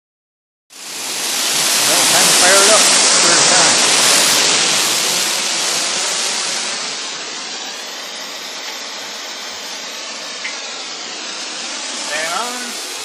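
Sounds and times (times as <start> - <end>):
electric blower fan rushing air: 0.7 - 13.0.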